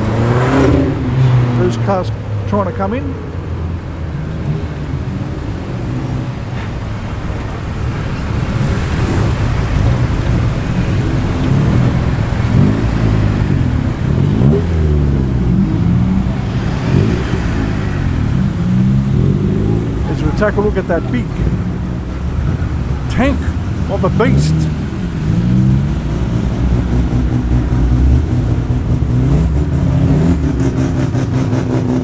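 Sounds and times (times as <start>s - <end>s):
car engines driving past: 0.0s - 32.0s.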